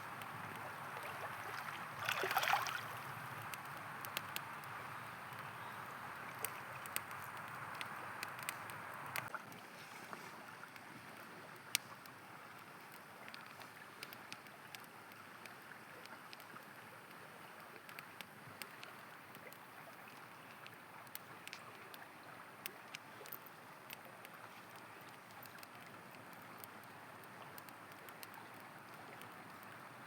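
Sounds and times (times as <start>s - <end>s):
campfire crackling and popping: 0.0s - 9.7s, 10.5s - 30.0s
river water flowing: 0.0s - 30.0s.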